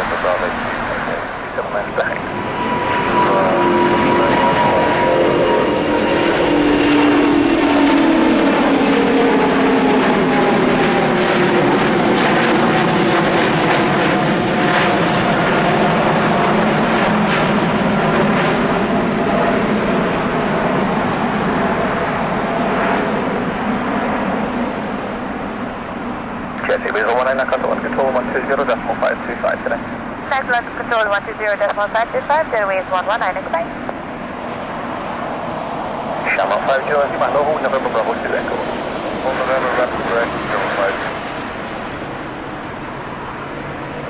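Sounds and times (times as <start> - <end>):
jet engine roar overhead: 0.0 - 44.0.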